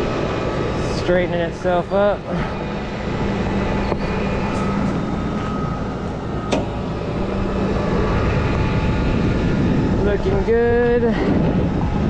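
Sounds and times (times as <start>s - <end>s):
tow truck engine and winch: 0.0s - 12.0s
winch whine: 0.0s - 12.0s.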